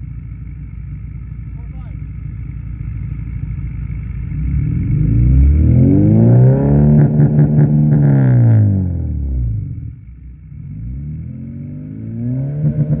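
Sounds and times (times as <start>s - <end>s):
car engine idling and revving: 0.0s - 13.0s
exhaust crackle: 0.0s - 13.0s.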